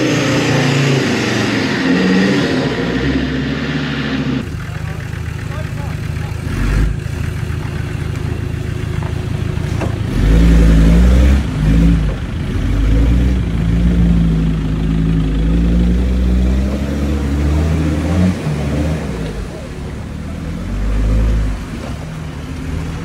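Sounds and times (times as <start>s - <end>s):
diesel engine revving hard: 0.0s - 23.0s.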